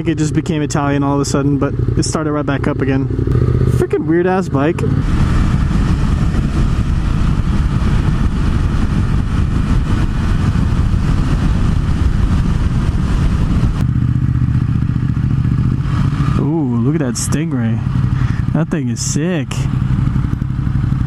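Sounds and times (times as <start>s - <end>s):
motorcycle engine running: 0.0s - 21.0s
rush of riding wind: 0.0s - 21.0s.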